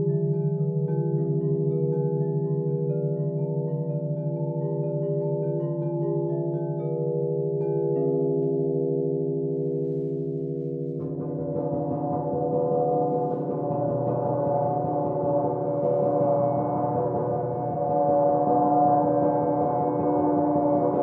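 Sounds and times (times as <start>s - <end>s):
crystal singing bowls ringing: 0.0s - 21.0s.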